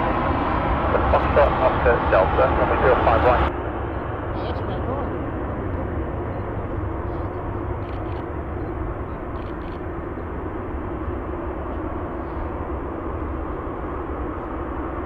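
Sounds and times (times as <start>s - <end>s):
faint hum: 0.0s - 15.0s
jet engines rumbling: 0.0s - 15.0s.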